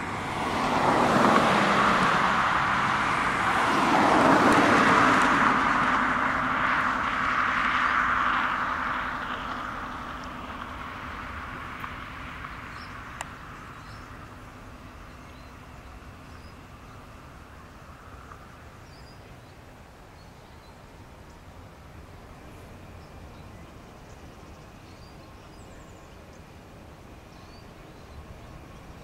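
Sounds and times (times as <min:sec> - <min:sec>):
distant jet engines rumbling: 0:00.0 - 0:29.0
passing car road noise: 0:00.0 - 0:29.0.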